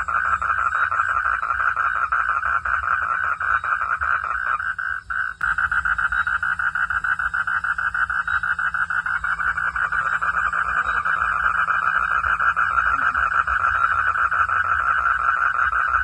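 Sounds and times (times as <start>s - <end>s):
frog calling in pulses: 0.0s - 16.0s.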